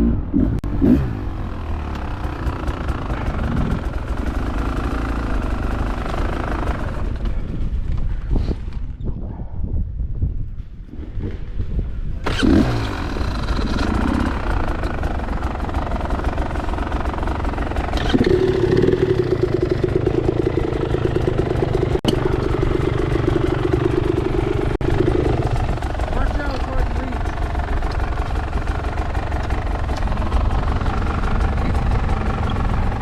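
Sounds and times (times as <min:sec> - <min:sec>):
dirt bike engine revving: 0:00.0 - 0:07.3, 0:12.2 - 0:33.0.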